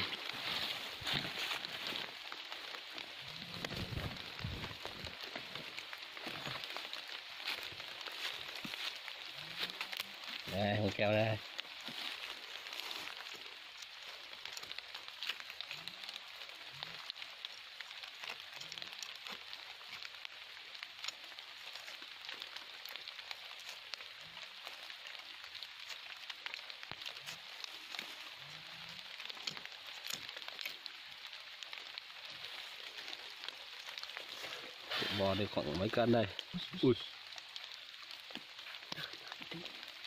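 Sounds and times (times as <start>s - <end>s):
light rain pattering: 0.0s - 40.0s.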